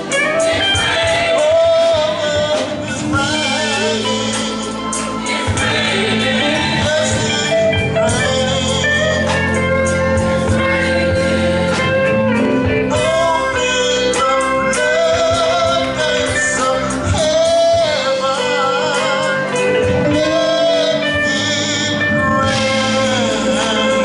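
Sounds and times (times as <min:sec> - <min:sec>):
band with electric guitars: 0:00.0 - 0:24.0
church choir singing: 0:00.0 - 0:24.0.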